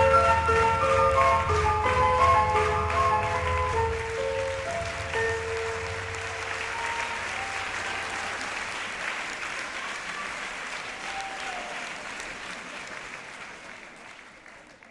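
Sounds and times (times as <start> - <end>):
audience applauding: 0.0 - 14.9.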